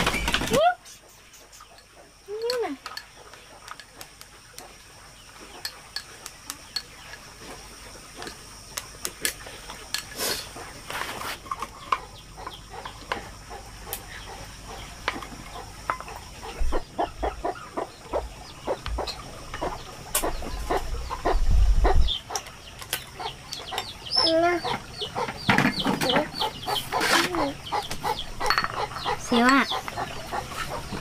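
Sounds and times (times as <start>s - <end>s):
chickens clucking: 0.3s - 31.0s.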